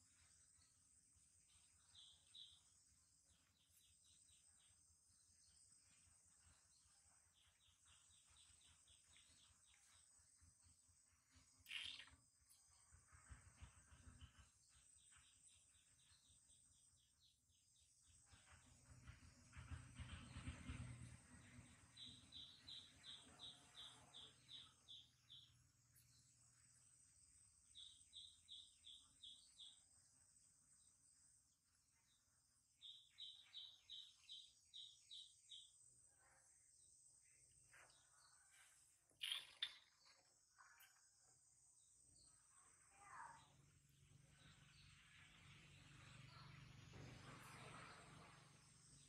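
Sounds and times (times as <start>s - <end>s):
faint high chirps: 0.0s - 18.6s, 21.6s - 49.0s.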